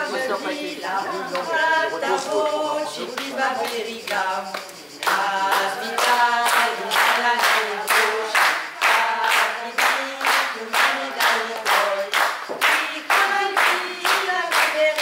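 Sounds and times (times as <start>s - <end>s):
women singing into microphone: 0.0s - 15.0s
people clapping along: 1.2s - 15.0s.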